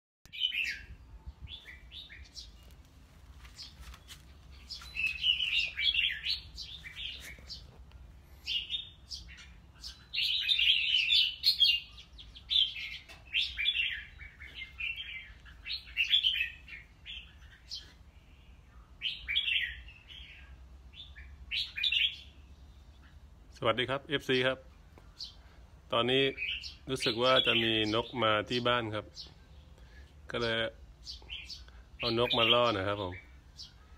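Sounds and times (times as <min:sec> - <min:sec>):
bulbuls singing and calling: 0:00.3 - 0:33.9.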